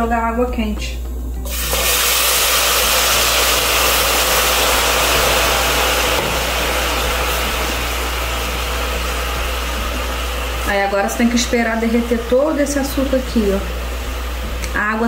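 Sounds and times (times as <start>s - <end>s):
water sizzling in hot pan: 1.5s - 15.0s.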